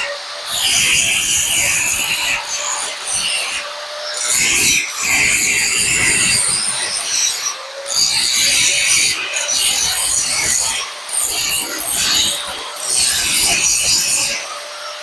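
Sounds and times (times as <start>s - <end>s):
power sander grinding metal: 0.0s - 15.0s.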